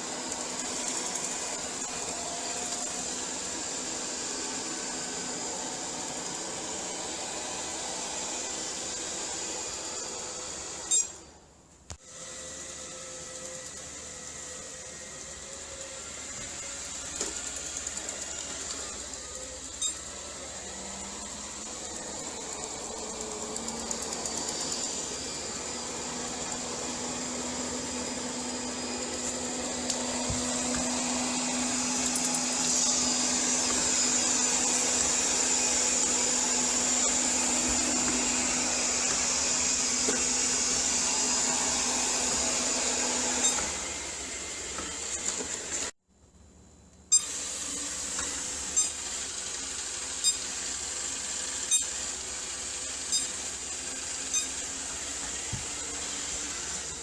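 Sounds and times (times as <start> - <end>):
robot vacuum cleaner whirring: 0.0 - 46.0, 47.1 - 57.0.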